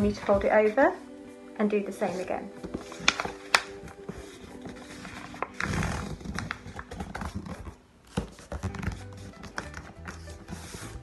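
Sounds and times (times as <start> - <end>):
paper rustling and crinkling: 0.0 - 0.8, 2.0 - 11.0.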